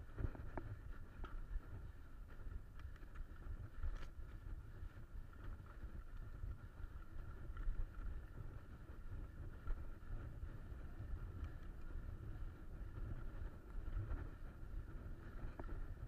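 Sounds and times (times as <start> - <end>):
mountain bike riding on dirt: 0.0 - 16.0
wind rumbling on microphone: 0.0 - 16.0.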